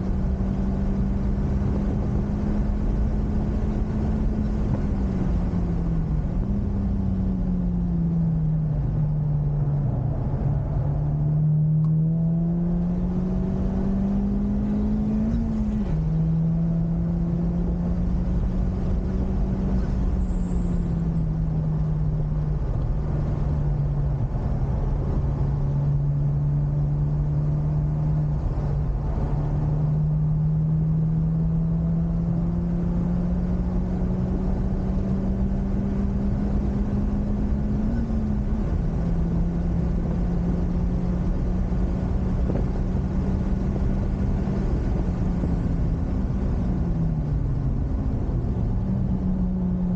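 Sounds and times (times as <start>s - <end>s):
car engine revving: 0.0s - 49.9s
road noise: 0.0s - 49.9s.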